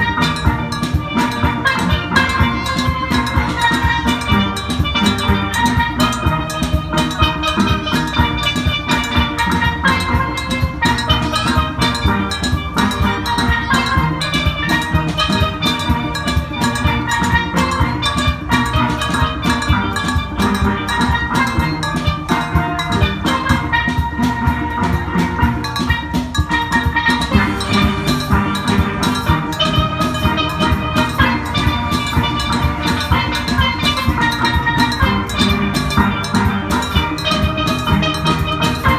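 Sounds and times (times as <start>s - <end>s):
drums steady beat: 0.0s - 38.9s
steel pans playing melody: 0.0s - 38.9s.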